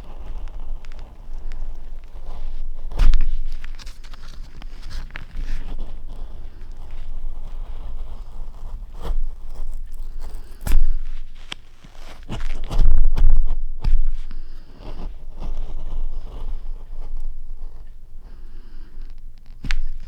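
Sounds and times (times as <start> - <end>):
scraping and rubbing: 0.0 - 20.0.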